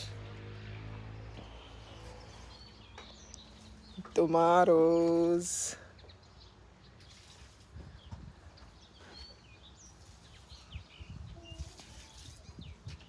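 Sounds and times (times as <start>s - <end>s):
bird chirps and calls: 1.4s - 13.0s.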